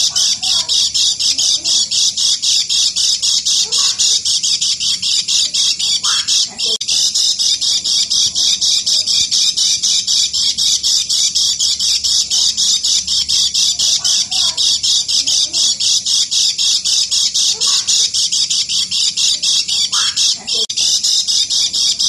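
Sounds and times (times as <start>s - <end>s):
bird chattering rapidly: 0.0s - 22.0s.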